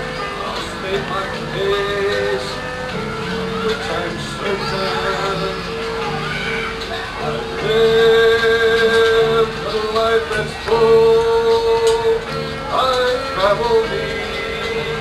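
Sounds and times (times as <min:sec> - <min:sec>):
man singing: 0:00.0 - 0:06.5, 0:07.2 - 0:15.0
low musical accompaniment: 0:00.0 - 0:15.0.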